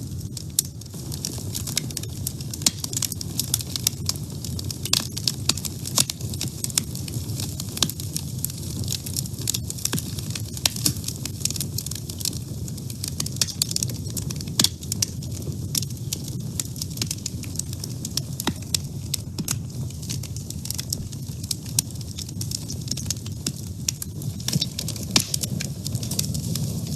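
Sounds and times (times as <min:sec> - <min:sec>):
wood fire crackling in a stove: 0:00.0 - 0:26.9.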